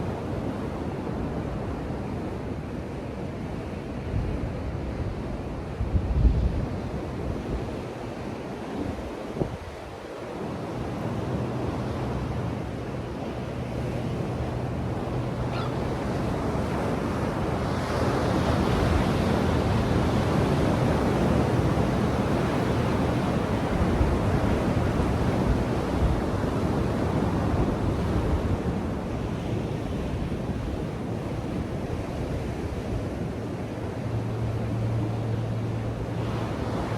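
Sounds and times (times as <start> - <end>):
ocean waves breaking on beach: 0.0 - 36.9.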